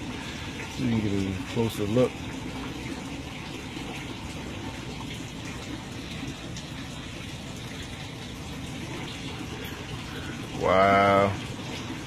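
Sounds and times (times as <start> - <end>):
water running into a tank: 0.0 - 12.0.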